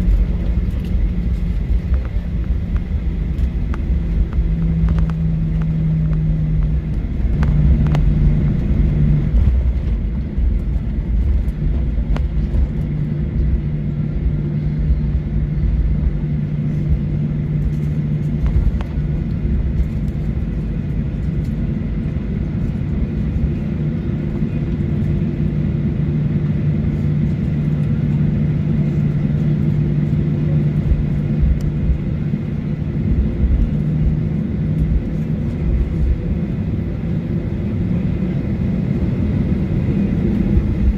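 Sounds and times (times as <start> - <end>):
jet engines humming: 0.0 - 40.9
low rolling rumble: 0.0 - 40.9.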